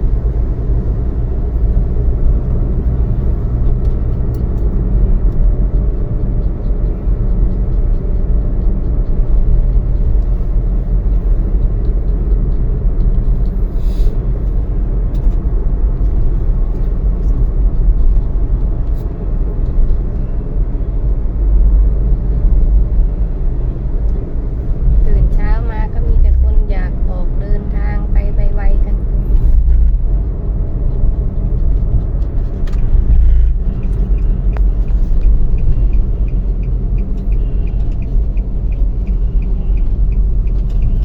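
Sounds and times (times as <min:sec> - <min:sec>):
road noise: 0:00.0 - 0:41.0
vehicle engine rumble: 0:00.0 - 0:41.0.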